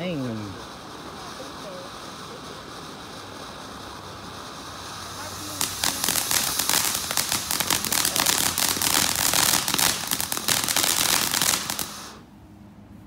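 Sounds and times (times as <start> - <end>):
firework crackling pops: 0.0 - 12.3
firework hiss: 0.0 - 12.5.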